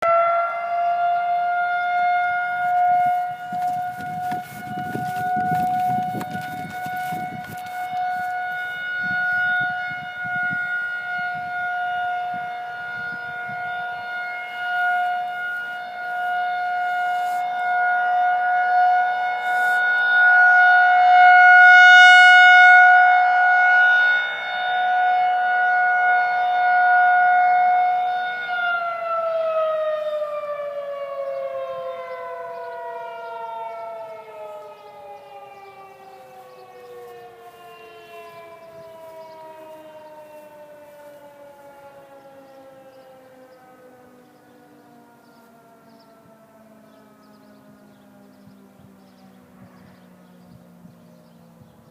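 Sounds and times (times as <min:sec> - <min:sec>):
rotating electromechanical siren: 0:00.0 - 0:51.9.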